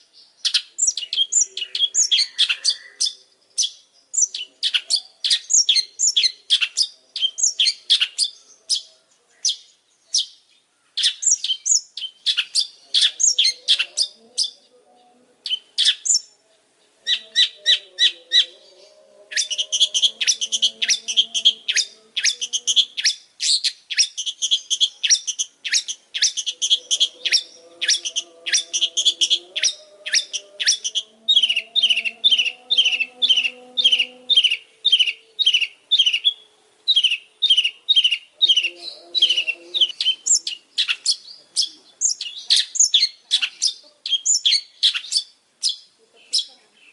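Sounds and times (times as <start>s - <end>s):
shrike singing scratchy chatter: 0.4s - 10.3s, 11.0s - 46.9s.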